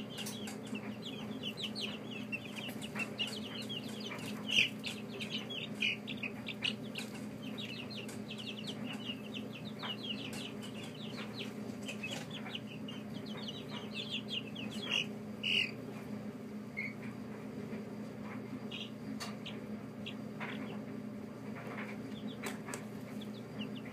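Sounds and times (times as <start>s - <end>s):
chicks peeping: 0.0s - 23.9s
steady low hum: 0.0s - 23.9s.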